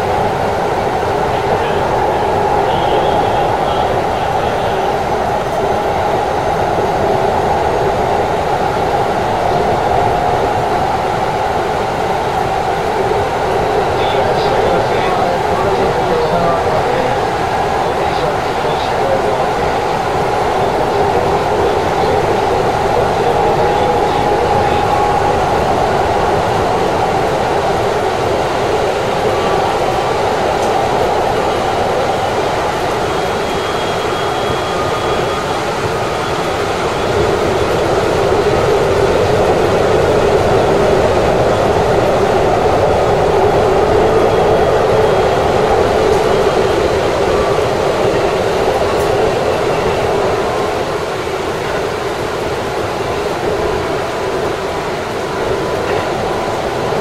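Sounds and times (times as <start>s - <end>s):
electric train running: 0.0s - 57.0s.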